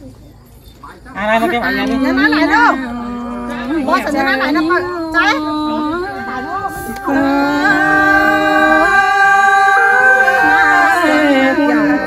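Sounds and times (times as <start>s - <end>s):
group singing together: 1.2s - 12.0s.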